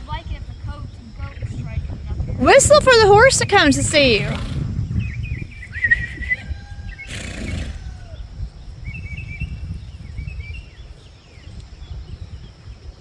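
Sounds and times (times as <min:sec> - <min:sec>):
wind rumbling on microphone: 0:00.0 - 0:13.0
birds chirping: 0:02.4 - 0:13.0.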